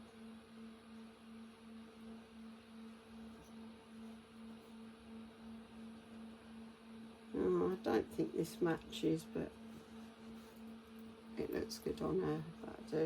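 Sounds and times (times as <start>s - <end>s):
faint pulsing low hum: 0.0s - 13.0s.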